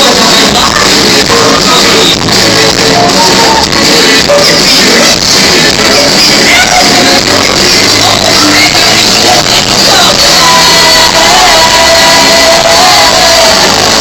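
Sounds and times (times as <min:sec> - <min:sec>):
live band with singing: 0:00.0 - 0:14.0.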